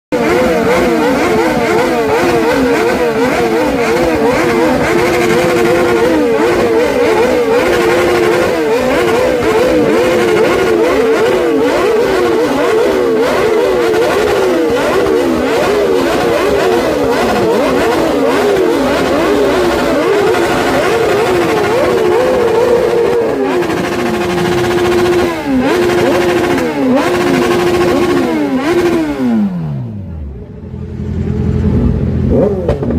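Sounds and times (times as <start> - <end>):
motorcycle engines revving: 0.0 - 32.9.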